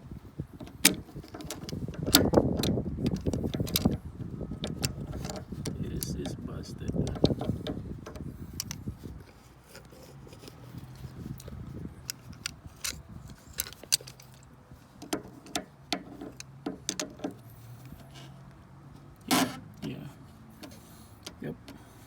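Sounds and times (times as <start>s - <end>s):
strut mount clicking and clunking: 0.5s - 22.0s.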